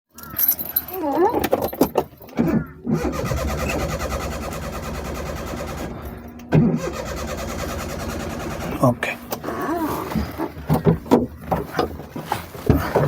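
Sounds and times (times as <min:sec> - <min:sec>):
starter motor cranking engine: 0:02.2 - 0:13.0.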